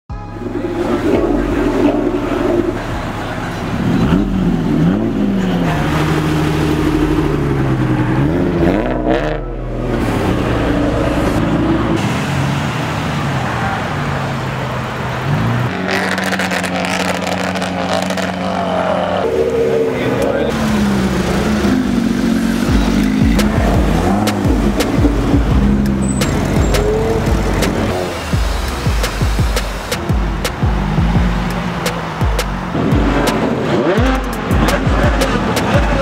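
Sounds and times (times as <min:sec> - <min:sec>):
sports car engines revving: 0:00.1 - 0:36.0.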